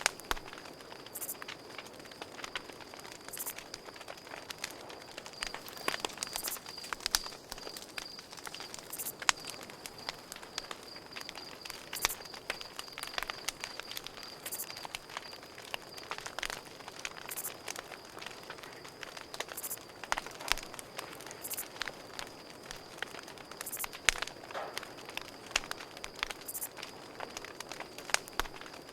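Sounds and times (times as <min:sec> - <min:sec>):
campfire crackling and popping: 0:00.0 - 0:28.9
crickets chirping: 0:00.0 - 0:28.9.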